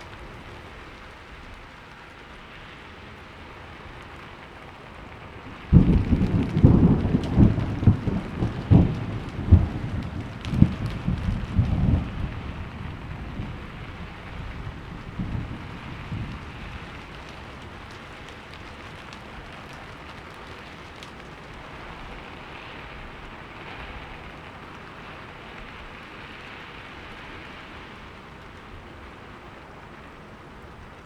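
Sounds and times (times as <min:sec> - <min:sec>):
heavy rain falling: 0:00.0 - 0:31.0
thunder rumbling: 0:03.5 - 0:31.0.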